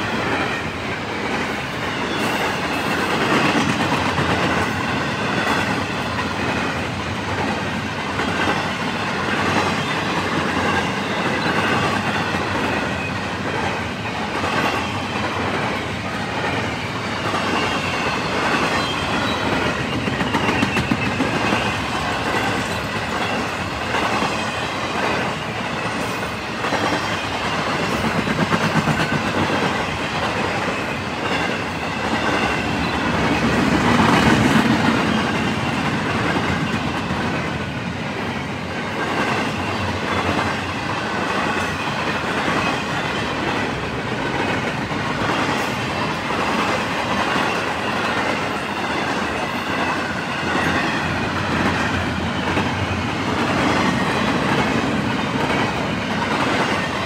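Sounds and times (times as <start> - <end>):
freight train cars rolling: 0.0 - 57.0.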